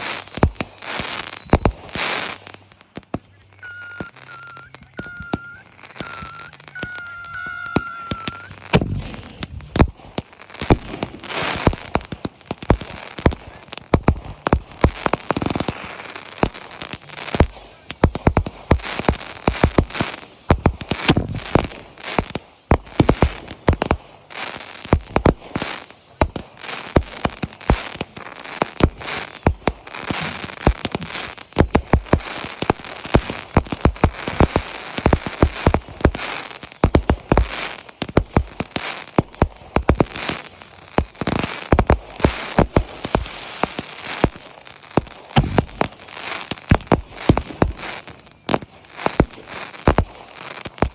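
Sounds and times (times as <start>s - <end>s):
falling firework whistles: 0.0s - 2.4s, 3.0s - 12.0s, 14.9s - 50.9s
firework bursts and crackling: 0.0s - 50.9s.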